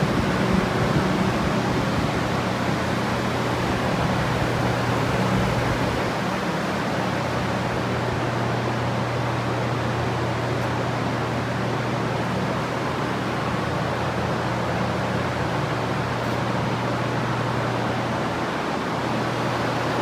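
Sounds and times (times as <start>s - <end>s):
dehumidifier low hum: 0.0s - 20.0s.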